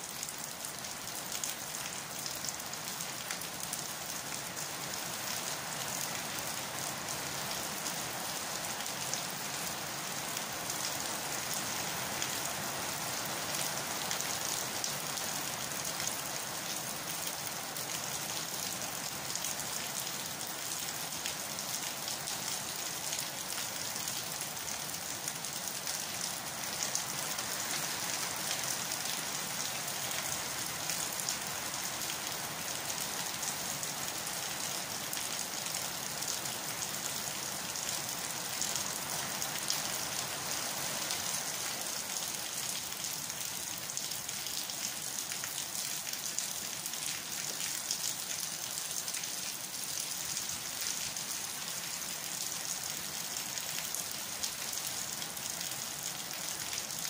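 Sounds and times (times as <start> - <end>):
rain on leaves and concrete: 0.0 - 57.0.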